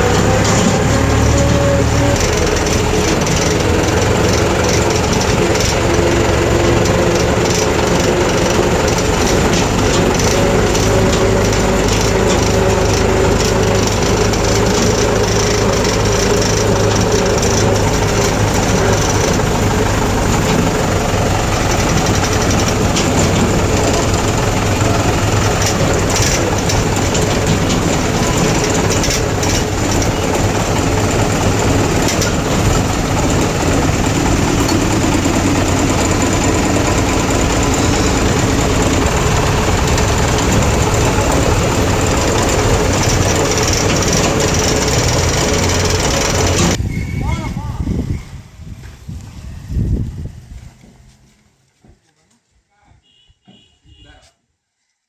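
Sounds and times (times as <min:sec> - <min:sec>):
engine rattle: 0:00.0 - 0:51.2
tractor diesel engine running: 0:00.0 - 0:51.3.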